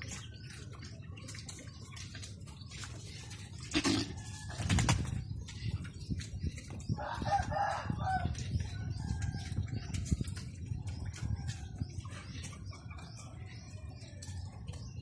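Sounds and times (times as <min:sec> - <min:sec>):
pigs chewing: 0:00.0 - 0:15.0.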